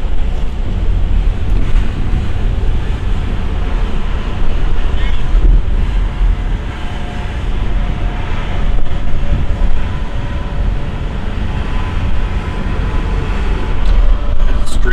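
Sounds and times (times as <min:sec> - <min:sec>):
road noise: 0:00.0 - 0:14.9.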